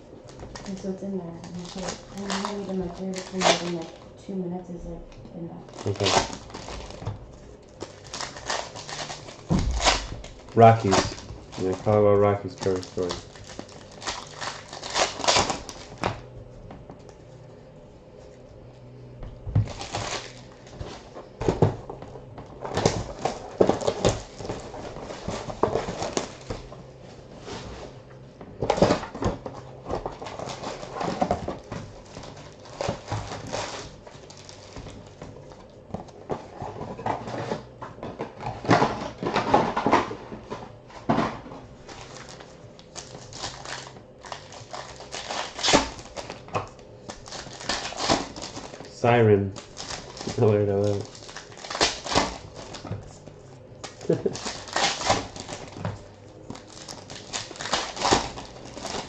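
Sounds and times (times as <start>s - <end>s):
cards and wrappers rustling: 0.0s - 4.2s, 5.6s - 17.4s, 19.6s - 59.0s.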